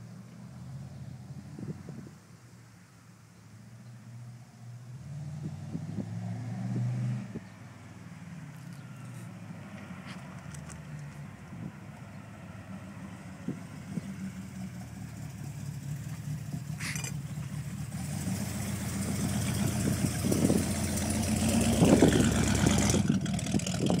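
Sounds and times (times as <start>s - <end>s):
car engine approaching: 0.0s - 24.0s.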